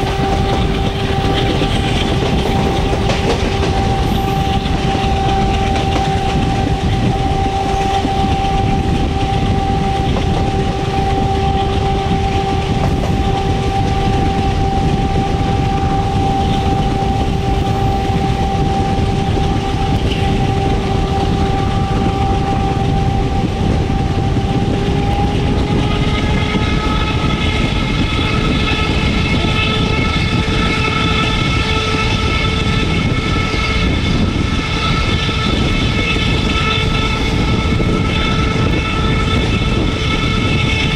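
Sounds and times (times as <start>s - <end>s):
diesel locomotive rumble: 0.0s - 40.9s
locomotive whine: 0.0s - 40.9s.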